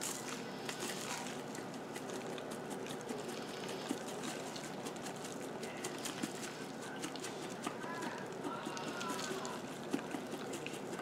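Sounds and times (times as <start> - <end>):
grated cheese pattering into cup: 0.0 - 11.0.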